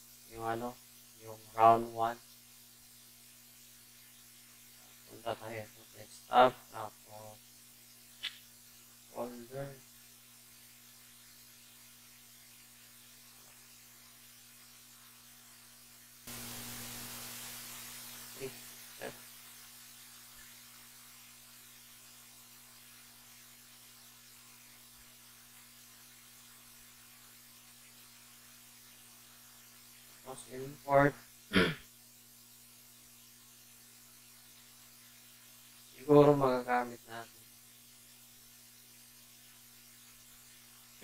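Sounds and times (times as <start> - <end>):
electrical mains hum: 0.0 - 41.0
hiss: 0.0 - 41.0.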